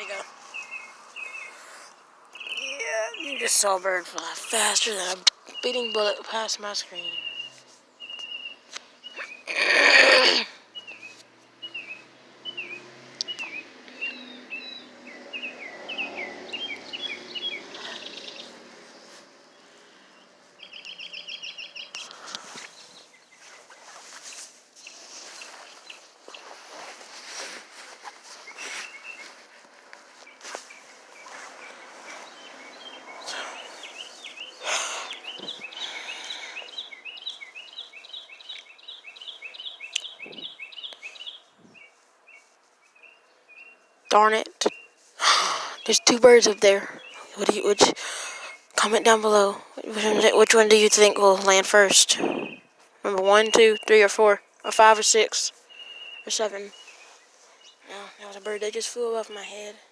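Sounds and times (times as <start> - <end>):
high bird chirps: 2.3 - 10.2, 10.8 - 19.2, 20.6 - 26.6, 30.2 - 45.0, 45.6 - 59.8.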